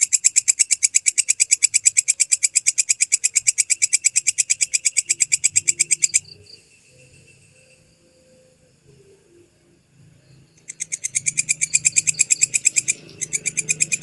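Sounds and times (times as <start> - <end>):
bush cricket calling: 0.0 - 14.0.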